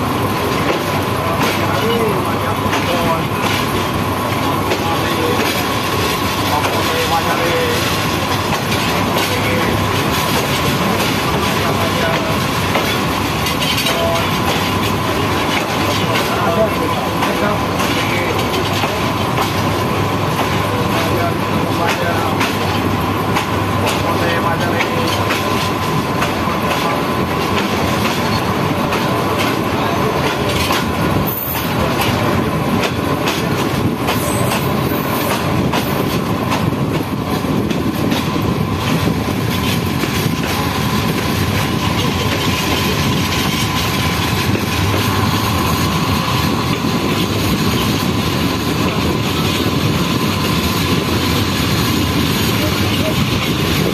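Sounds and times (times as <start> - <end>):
train carriages rumbling: 0.0 - 53.9.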